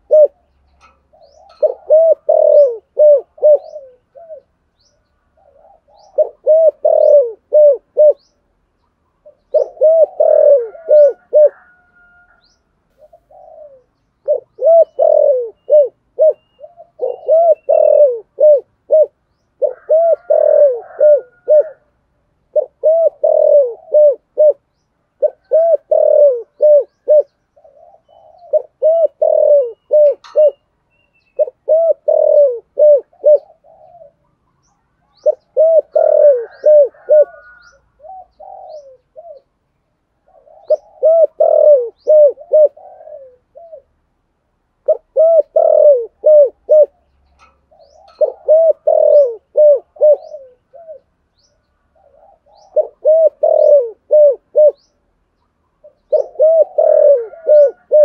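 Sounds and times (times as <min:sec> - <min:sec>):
dove cooing: 0:00.0 - 0:08.4, 0:09.2 - 0:44.0, 0:44.8 - 0:55.0, 0:55.8 - 0:58.0.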